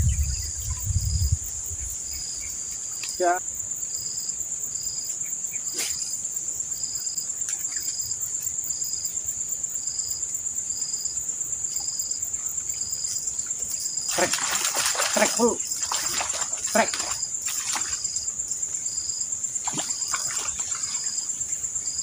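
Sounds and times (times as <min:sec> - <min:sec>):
high-pitched insect trill: 0:00.0 - 0:22.0
insect chirping in pulses: 0:00.0 - 0:22.0.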